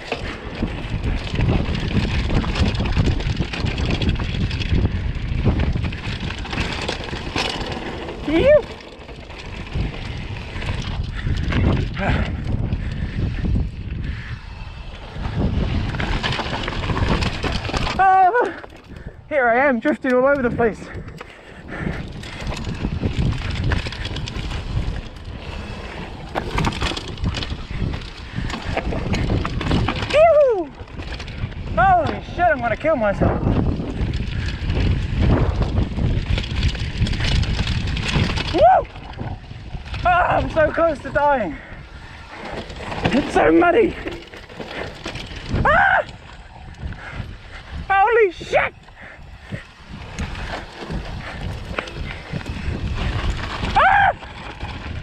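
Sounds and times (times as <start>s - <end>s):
bike clattering over rocks: 0.0s - 13.9s, 15.2s - 19.2s, 19.8s - 48.1s, 48.8s - 55.0s
wind rushing on microphone: 0.0s - 55.0s.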